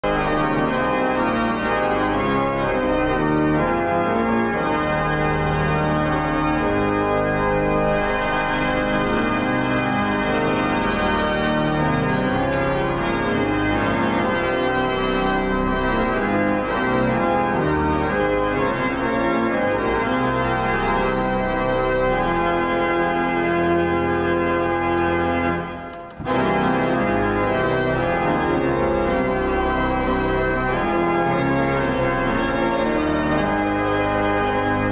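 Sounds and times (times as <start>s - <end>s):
church organ playing chords: 0.0s - 34.9s.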